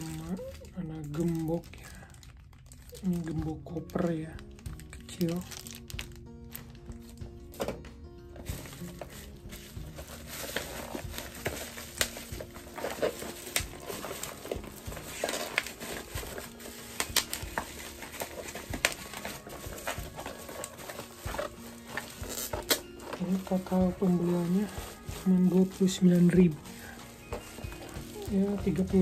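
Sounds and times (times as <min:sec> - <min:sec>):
plastic wrap crinkling: 0:00.0 - 0:29.0.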